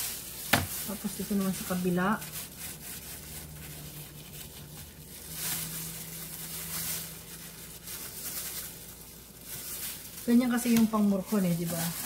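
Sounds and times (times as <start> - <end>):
plastic gloves crinkling: 0.0 - 12.0.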